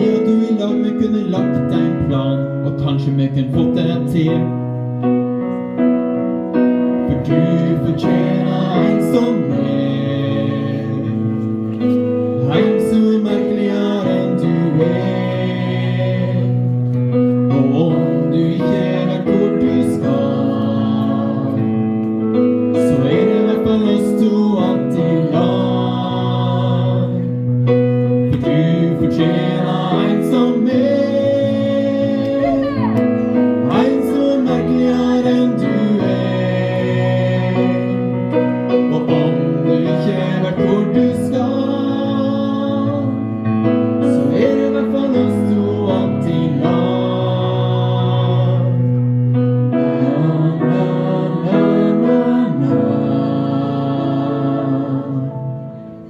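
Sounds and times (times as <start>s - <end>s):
piano accompaniment: 0.0s - 56.0s
choir singing: 7.1s - 27.5s, 28.3s - 43.2s, 44.0s - 48.9s, 49.8s - 55.6s.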